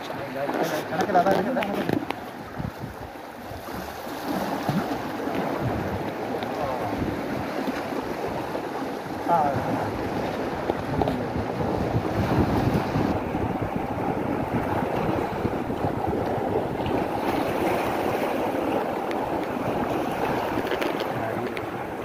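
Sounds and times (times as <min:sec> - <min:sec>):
sea surf rushing on shore: 0:00.0 - 0:22.0
wind buffeting microphone: 0:00.0 - 0:22.0.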